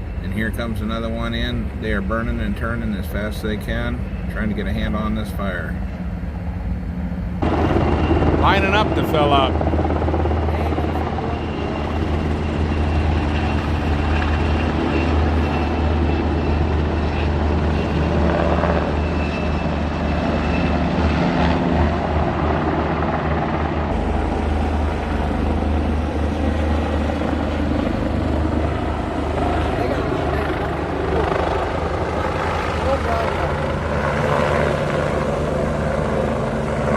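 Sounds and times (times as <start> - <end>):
helicopter rotor and engine: 0.0 - 36.9.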